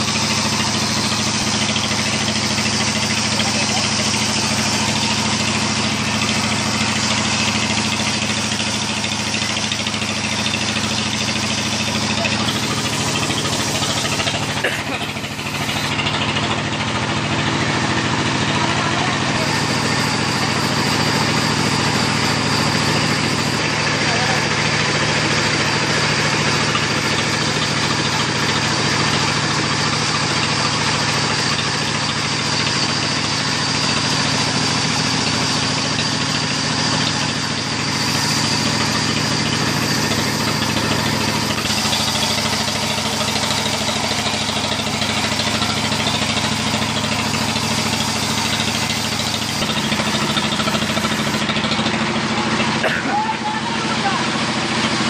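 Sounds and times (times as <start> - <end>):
band saw machine hum: 0.0 - 55.0.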